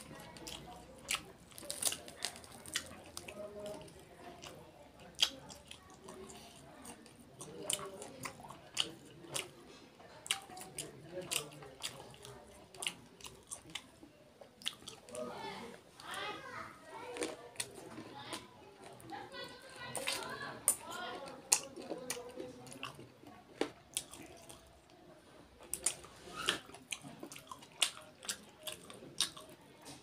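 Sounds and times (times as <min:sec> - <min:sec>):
chewing: 0:00.0 - 0:15.3, 0:16.0 - 0:30.0.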